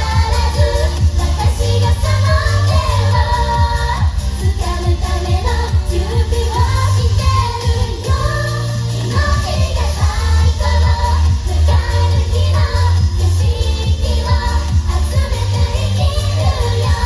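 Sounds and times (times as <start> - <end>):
backing track with heavy bass: 0.0 - 17.0
woman singing pop song: 0.0 - 17.0.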